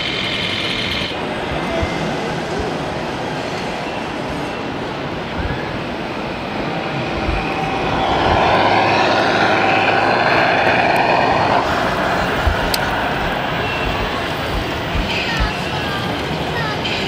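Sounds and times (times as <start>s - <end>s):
rc trucks engine drone: 0.0s - 17.0s.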